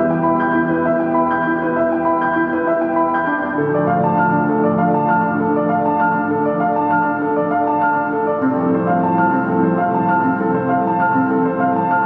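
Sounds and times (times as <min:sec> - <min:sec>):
slow melodic background music: 0:00.0 - 0:12.0.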